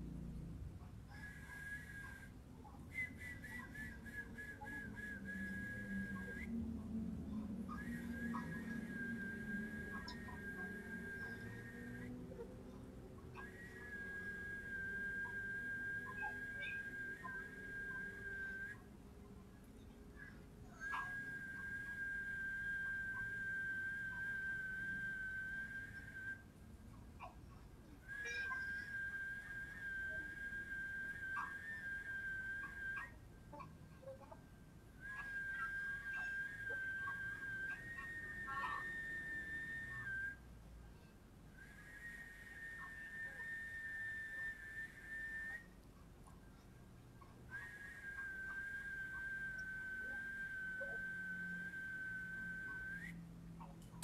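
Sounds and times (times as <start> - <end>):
long high whistled note: 1.1 - 18.9, 19.8 - 26.5, 28.1 - 34.0, 35.0 - 40.4, 41.0 - 45.8, 47.2 - 53.3.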